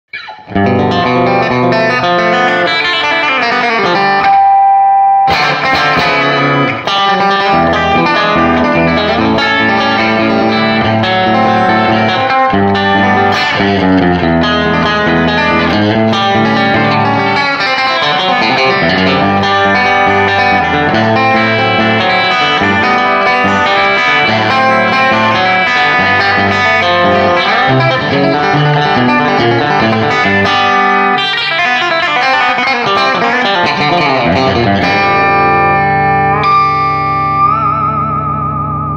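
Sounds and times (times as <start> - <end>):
country electric guitar picking: 0.1 - 38.9.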